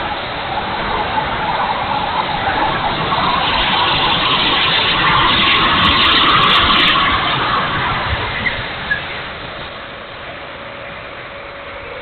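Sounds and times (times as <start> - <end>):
model jet fan whine: 0.0 - 12.0.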